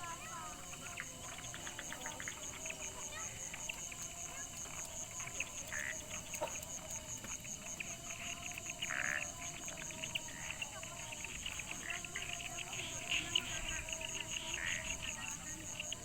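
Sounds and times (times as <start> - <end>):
insect chirps and trills: 0.0 - 16.0
insect steady high pulse: 0.0 - 16.0.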